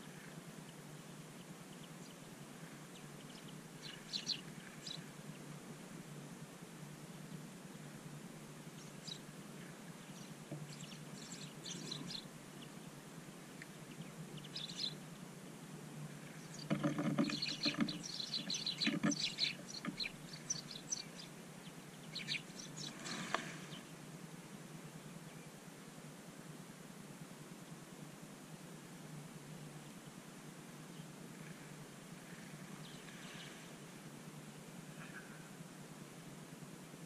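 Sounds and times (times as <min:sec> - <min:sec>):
songbirds chirping: 0:00.0 - 0:25.9, 0:28.9 - 0:36.2.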